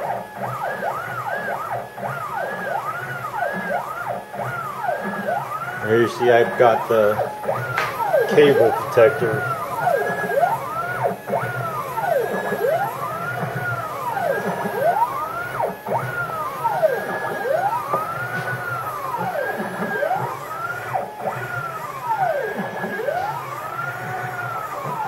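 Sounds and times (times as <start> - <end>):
stepper motors whining: 0.0 - 25.0.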